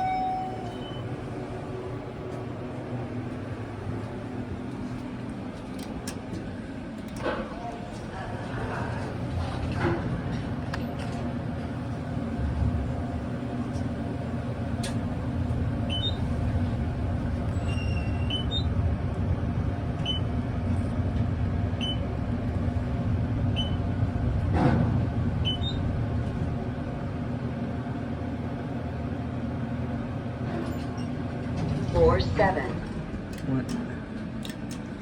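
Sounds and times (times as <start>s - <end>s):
elevator rumble and hum: 0.0s - 35.0s.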